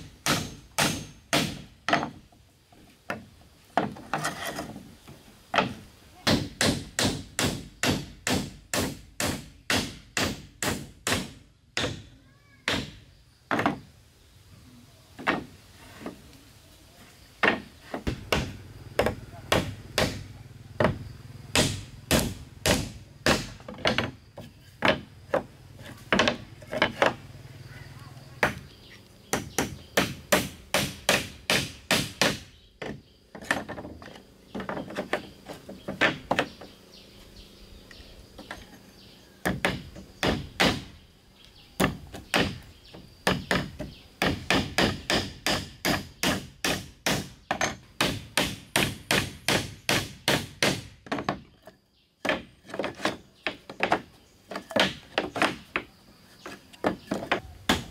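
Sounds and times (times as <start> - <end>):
hatchet striking wooden planks: 0.0 - 2.3, 3.1 - 4.8, 5.5 - 13.8, 17.4 - 27.2, 29.3 - 36.6, 39.4 - 40.9, 41.8 - 51.5, 52.2 - 57.9.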